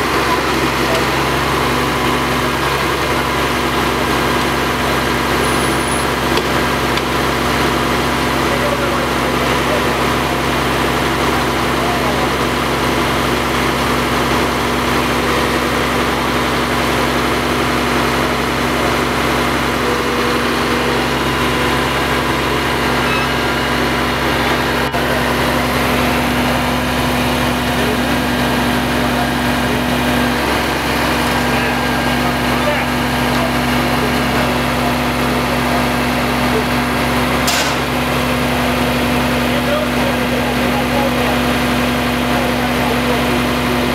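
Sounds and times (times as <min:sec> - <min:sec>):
diesel engine humming: 0:00.0 - 0:43.9.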